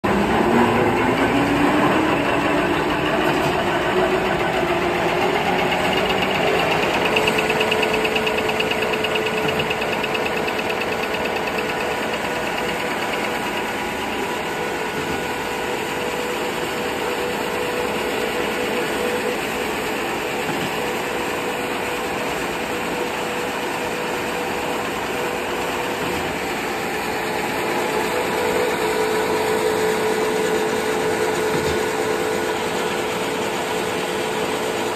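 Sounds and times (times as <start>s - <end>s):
folding machine mechanical whine: 0.1s - 34.9s.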